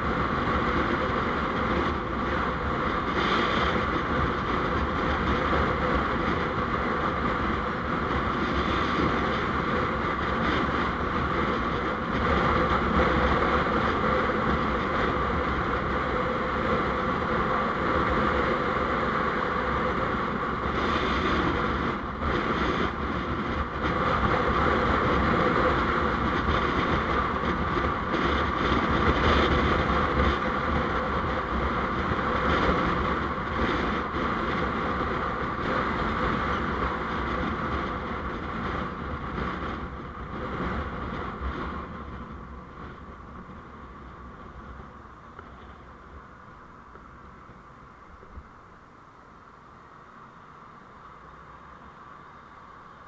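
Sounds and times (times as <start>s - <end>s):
wind buffeting microphone: 0.0s - 48.6s
vehicle road noise: 0.0s - 53.0s.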